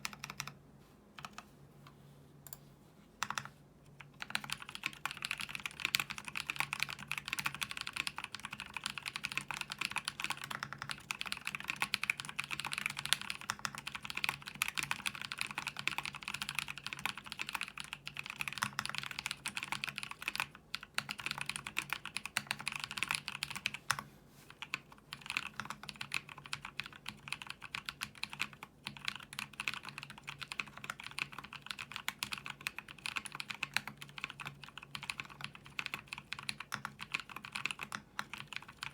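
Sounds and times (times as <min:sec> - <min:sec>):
mechanical keyboard typing: 0:00.0 - 0:00.6, 0:03.2 - 0:24.0, 0:24.6 - 0:38.9.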